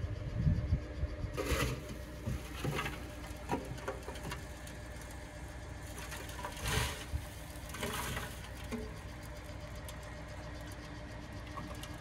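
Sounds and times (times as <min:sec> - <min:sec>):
diesel engine rumble: 0:01.3 - 0:12.0.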